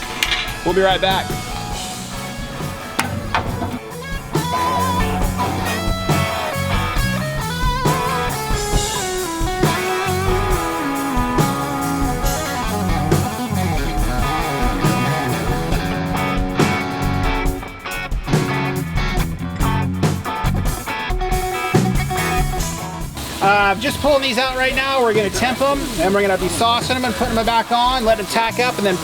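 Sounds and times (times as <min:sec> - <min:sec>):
bass and drums: 0:00.0 - 0:29.0
electric lead guitar melody: 0:00.0 - 0:29.0.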